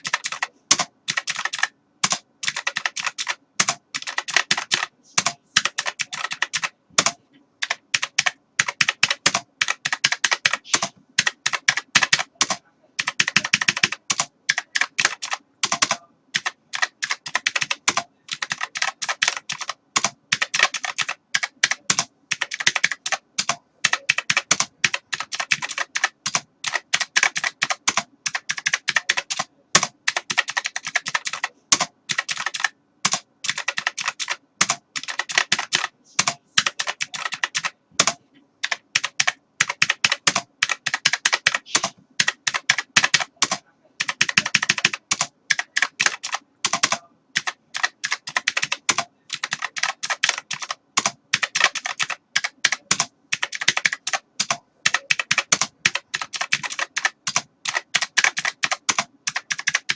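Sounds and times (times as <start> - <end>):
keyboard typing: 0.0 - 59.9.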